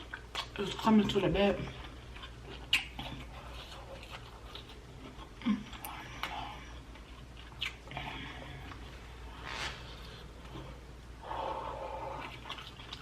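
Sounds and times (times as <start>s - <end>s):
prawns being chewed: 0.0s - 13.0s.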